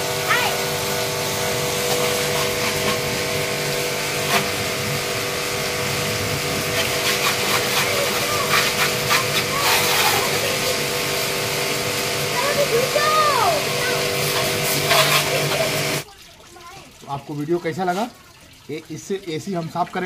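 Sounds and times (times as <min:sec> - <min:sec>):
pressure washer motor hum: 0:00.0 - 0:16.1
water jet spattering: 0:00.0 - 0:20.0.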